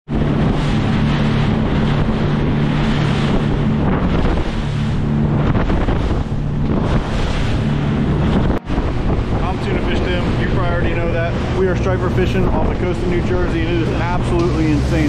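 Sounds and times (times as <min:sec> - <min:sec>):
boat engine humming: 0:00.0 - 0:15.0
water washing: 0:00.1 - 0:15.0
wind buffeting microphone: 0:00.1 - 0:15.0.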